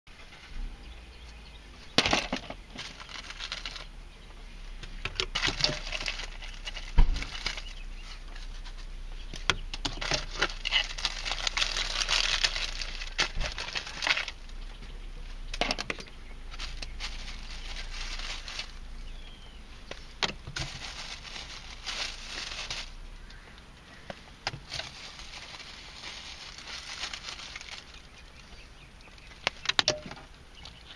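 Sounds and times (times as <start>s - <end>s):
crinkly rustling: 1.8s - 30.9s.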